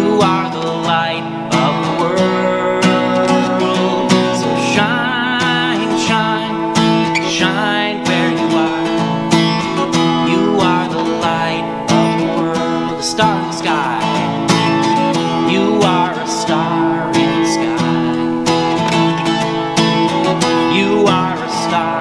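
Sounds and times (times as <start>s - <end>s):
acoustic guitar strumming: 0.0s - 22.0s
man singing: 0.0s - 22.0s.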